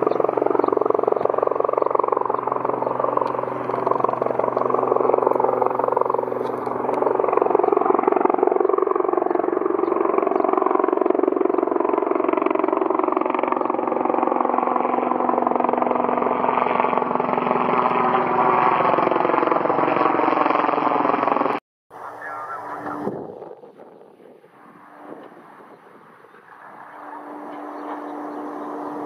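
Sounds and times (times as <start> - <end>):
helicopter flying low overhead: 0.0 - 29.0.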